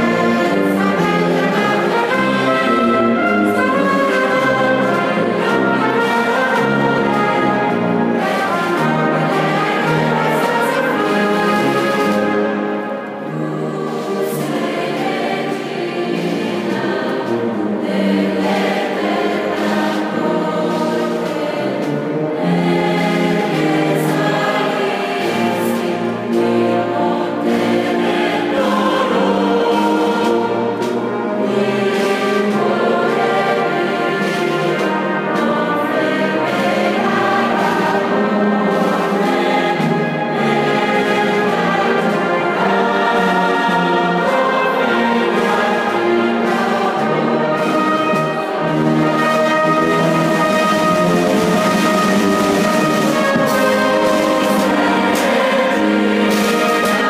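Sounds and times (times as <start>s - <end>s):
mixed choir singing: 0.0s - 57.0s
wind band playing: 0.0s - 57.0s.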